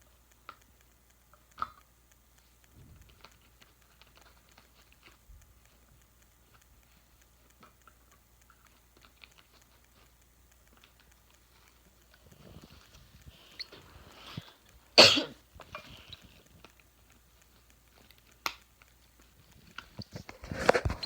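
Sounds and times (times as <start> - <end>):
cockatoos clicking and tapping: 0.0 - 21.0
steady low hum: 2.0 - 21.0.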